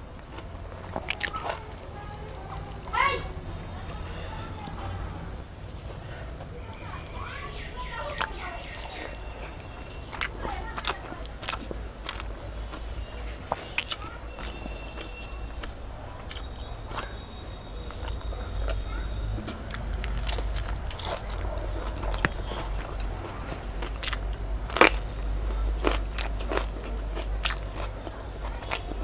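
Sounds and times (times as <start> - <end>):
steady low hum: 0.0 - 29.0
person chewing crunchy food: 0.1 - 2.8, 4.6 - 29.0.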